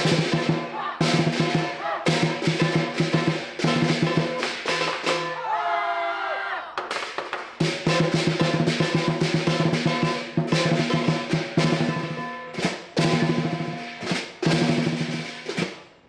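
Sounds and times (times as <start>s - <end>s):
cymbals clashing: 0.0s - 5.5s, 7.6s - 15.8s.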